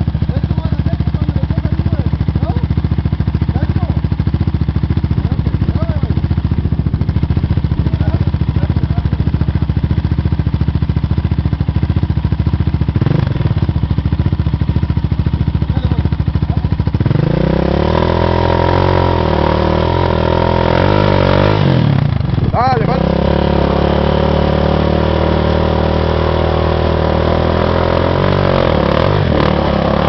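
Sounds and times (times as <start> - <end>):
atv engine idling and revving: 0.0 - 30.0.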